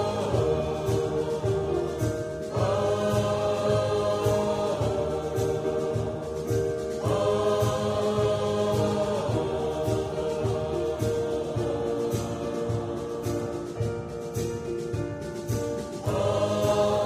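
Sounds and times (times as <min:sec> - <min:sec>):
choir singing: 0:00.0 - 0:17.0
steady accompaniment: 0:00.0 - 0:17.0.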